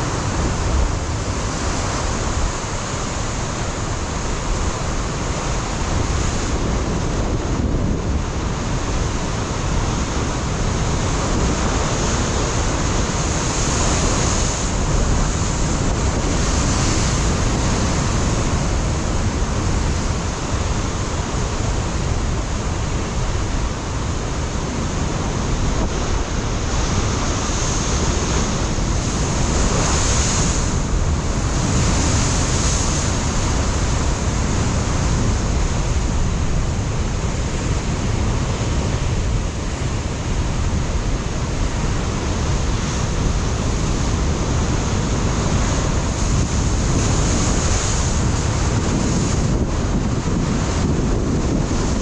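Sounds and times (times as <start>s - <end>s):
surf breaking on rocky shore: 0.0s - 52.0s
wind buffeting microphone: 0.0s - 52.0s.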